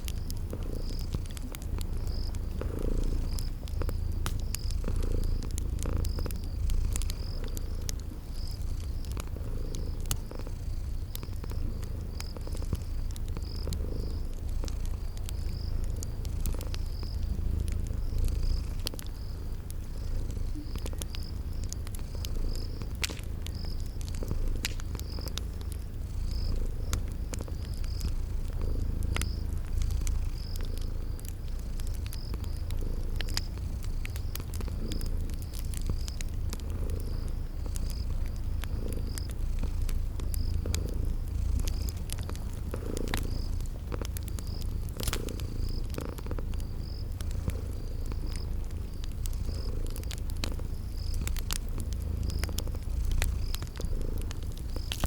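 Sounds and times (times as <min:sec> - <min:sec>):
cat purring: 0:00.0 - 0:55.0
cricket chirping: 0:00.0 - 0:55.0
fire crackling and popping: 0:00.0 - 0:55.0.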